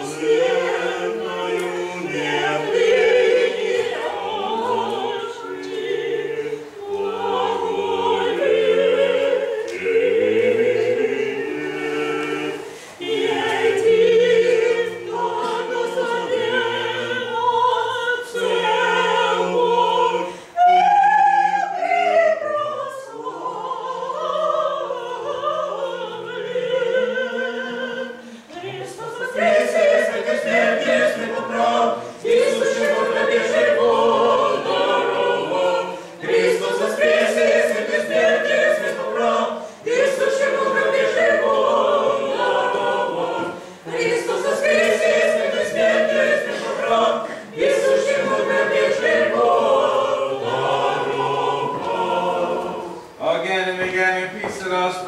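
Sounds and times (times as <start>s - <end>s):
choir singing chant: 0.0s - 53.5s.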